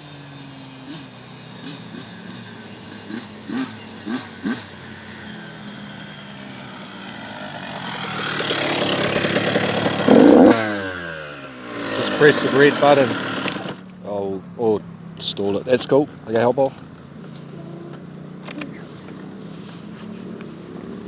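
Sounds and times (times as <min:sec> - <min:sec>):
dirt bike engine approaching: 0:00.0 - 0:21.0.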